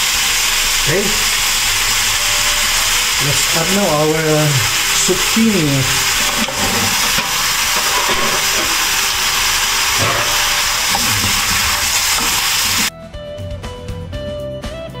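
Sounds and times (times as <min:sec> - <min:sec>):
vegetables sizzling in a wok: 0:00.0 - 0:12.9.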